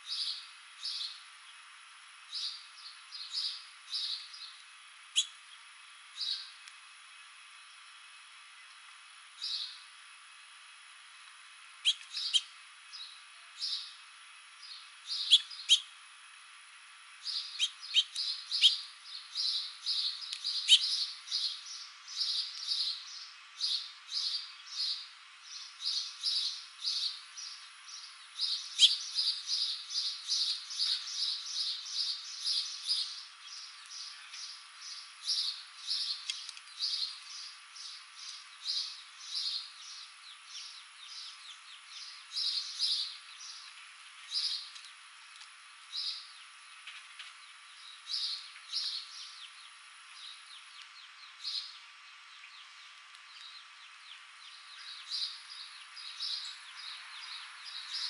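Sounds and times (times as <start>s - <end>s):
small songbird chirping: 0.0s - 6.7s, 9.4s - 9.9s, 11.8s - 14.0s, 14.6s - 15.9s, 17.2s - 58.0s.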